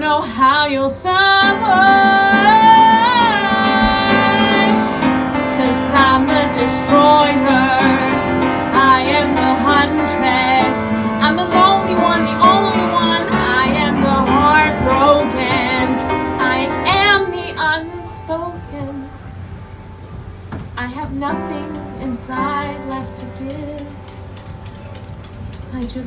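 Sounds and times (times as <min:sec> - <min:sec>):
woman singing show tune: 0:00.0 - 0:19.2, 0:20.8 - 0:24.1
piano accompaniment: 0:01.2 - 0:26.0.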